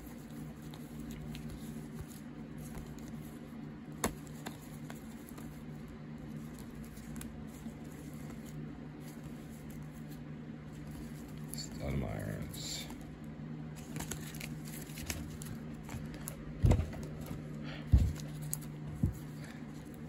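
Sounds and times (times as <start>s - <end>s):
cards ticking and rustling: 0.0s - 10.2s, 13.8s - 20.0s
steady low hum: 0.0s - 20.0s.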